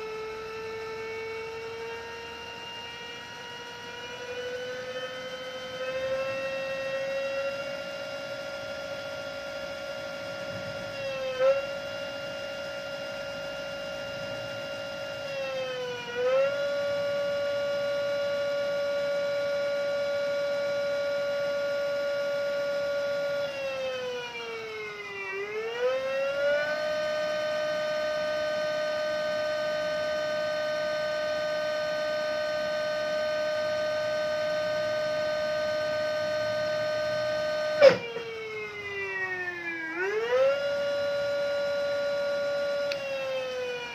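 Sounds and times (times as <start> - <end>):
electric motor whining: 0.0 - 43.9.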